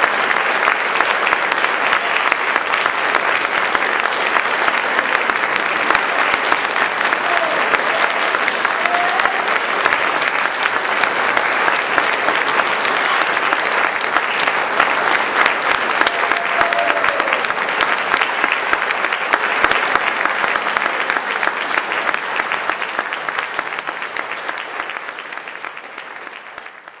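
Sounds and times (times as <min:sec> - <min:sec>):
audience applause: 0:00.0 - 0:27.0.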